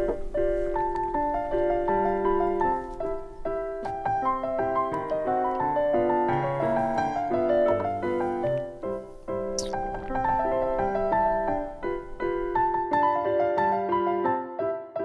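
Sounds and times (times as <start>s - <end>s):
light piano tune: 0.0s - 15.0s.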